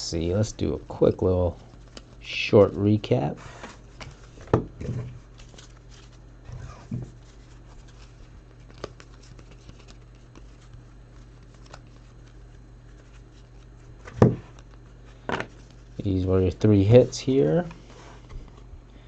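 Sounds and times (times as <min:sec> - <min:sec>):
steady low hum: 0:00.0 - 0:19.0
cards rustling: 0:00.4 - 0:04.6, 0:05.2 - 0:19.0.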